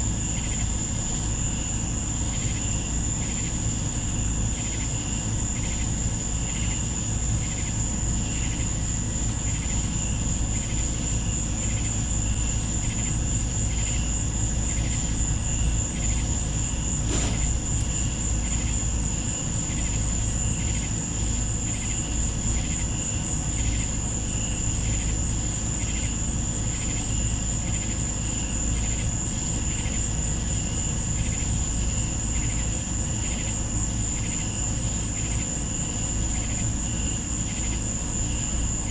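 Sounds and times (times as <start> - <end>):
crickets trilling: 0.0 - 38.9
low steady rumble: 0.0 - 38.9
pulsing insect chirp: 0.0 - 38.9.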